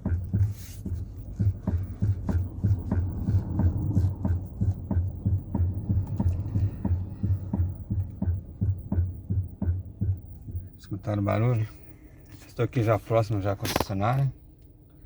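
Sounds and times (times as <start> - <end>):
dull low steering thumps: 0.0 - 14.6.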